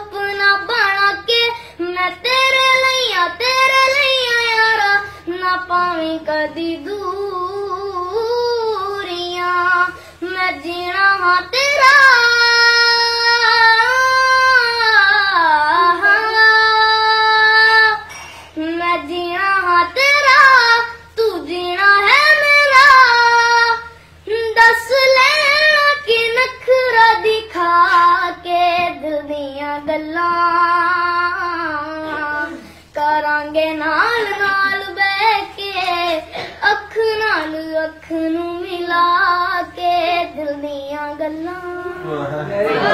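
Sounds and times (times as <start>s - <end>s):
boy singing: 0.0s - 42.9s.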